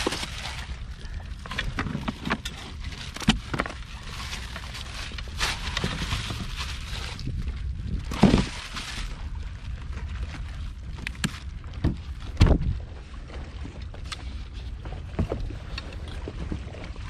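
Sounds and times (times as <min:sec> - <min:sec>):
low rumble of wind: 0:00.0 - 0:17.0
water: 0:00.0 - 0:17.0.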